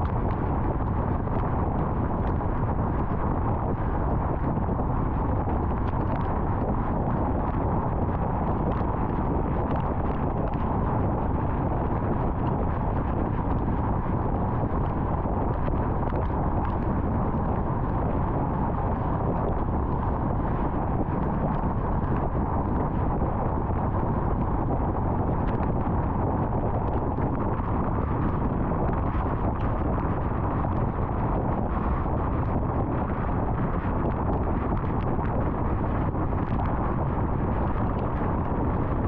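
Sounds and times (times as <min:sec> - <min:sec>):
tyre and wind noise of car: 0:00.0 - 0:39.0.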